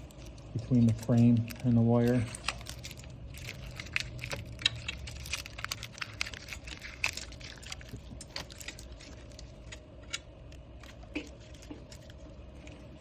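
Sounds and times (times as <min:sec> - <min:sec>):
plastic and wire rustling and clicking: 0:00.0 - 0:12.8.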